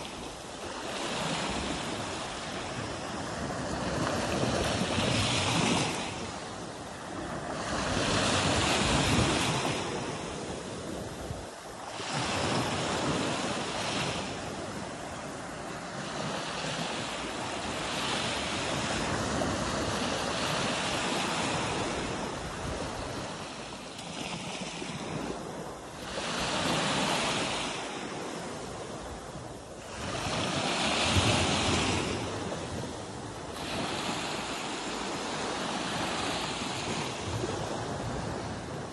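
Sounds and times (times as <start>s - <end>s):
small waves breaking on shore: 0.0s - 38.9s.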